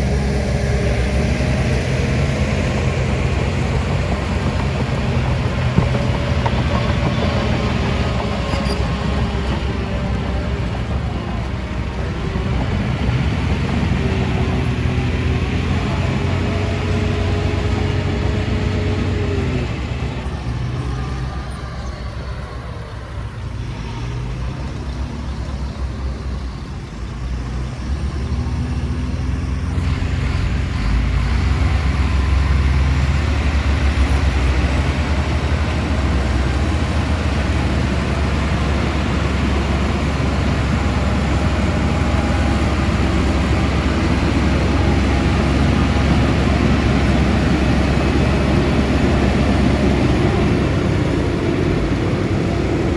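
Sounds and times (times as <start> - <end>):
heavy machinery diesel engine running: 0.0 - 52.9.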